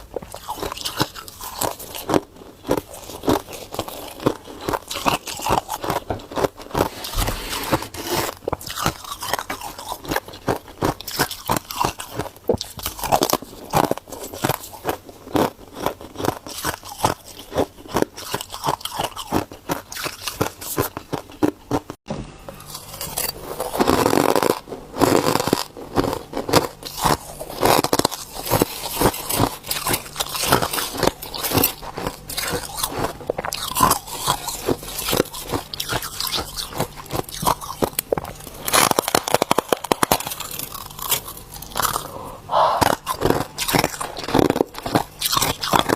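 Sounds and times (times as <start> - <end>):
ice crunching between teeth: 0.0 - 22.0, 22.6 - 45.9.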